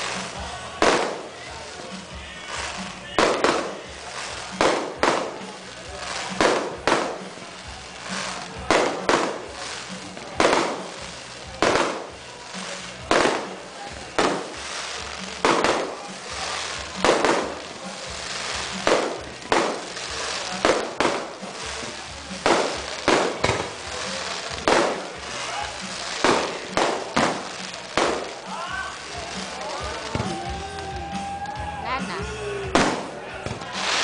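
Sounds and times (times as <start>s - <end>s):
fireworks bangs echoing: 0.0s - 31.3s, 32.7s - 34.0s.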